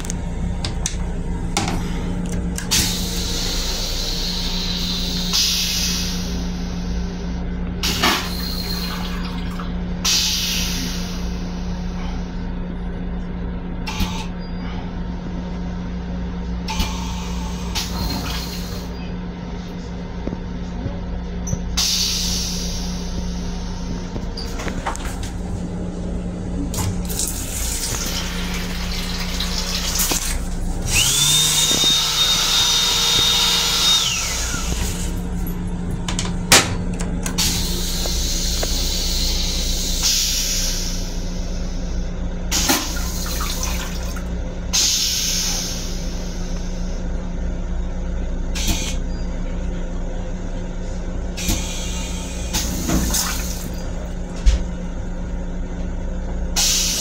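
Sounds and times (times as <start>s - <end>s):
electric railcar hum and rumble: 0.0s - 57.0s.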